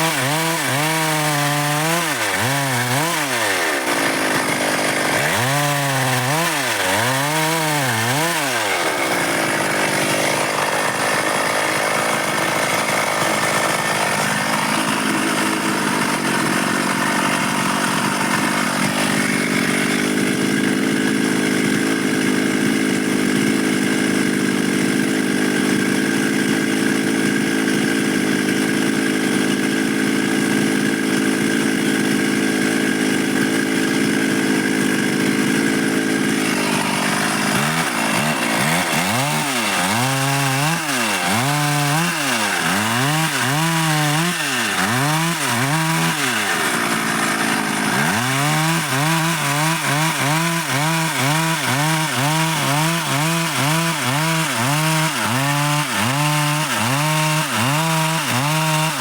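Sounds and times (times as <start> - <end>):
chainsaw cutting wood: 0.0 - 59.0
chainsaw revving: 0.0 - 59.0.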